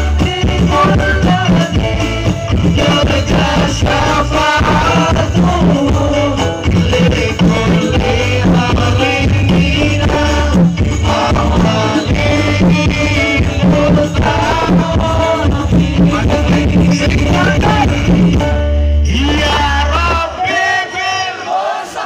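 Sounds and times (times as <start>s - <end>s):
man singing into a microphone: 0.0s - 21.6s
live music through a loud pa: 0.0s - 22.0s.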